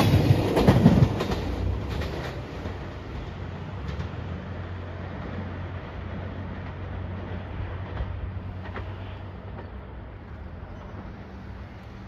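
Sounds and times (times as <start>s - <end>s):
distant diesel train rumble: 0.0s - 12.0s.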